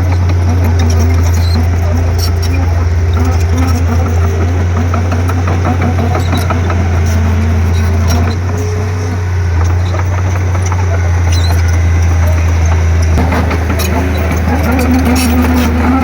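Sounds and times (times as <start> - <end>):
bulldozer diesel engine droning: 0.0 - 16.0
sharp clicks and squeaks: 0.0 - 16.0.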